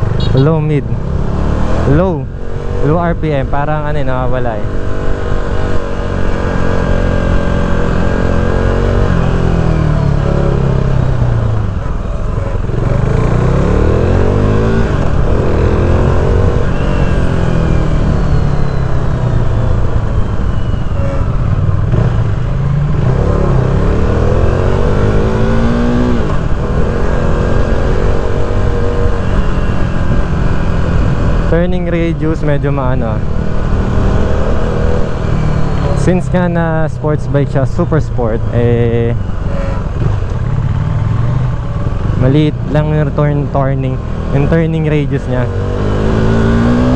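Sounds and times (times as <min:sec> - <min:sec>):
motorcycle engine revving through gears: 0:00.0 - 0:46.9.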